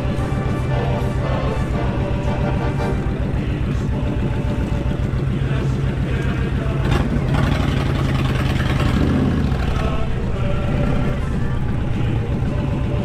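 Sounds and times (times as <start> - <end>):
motorcycle engine pulsing: 0.0 - 13.0.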